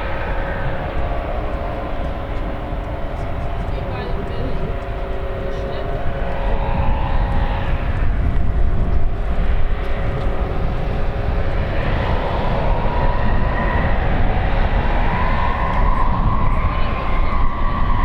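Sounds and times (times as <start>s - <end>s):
jet engines running loud: 0.0s - 18.0s.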